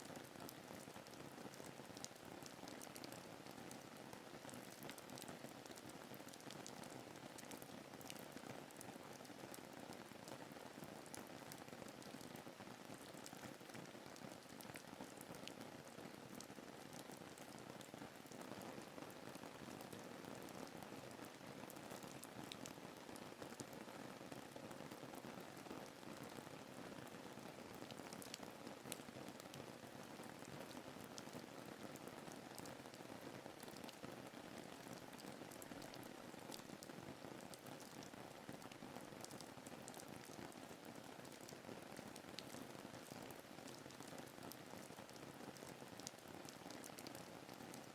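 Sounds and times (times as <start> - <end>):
soft rain: 0.0 - 47.9.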